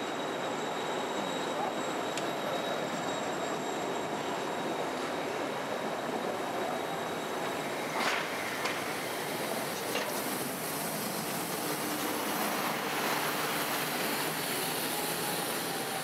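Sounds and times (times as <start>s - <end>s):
tram rolling on track: 0.0s - 16.0s.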